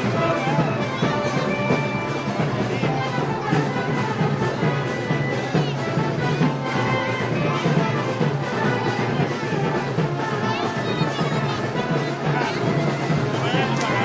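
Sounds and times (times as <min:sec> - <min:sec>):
live festival band music: 0:00.0 - 0:14.0.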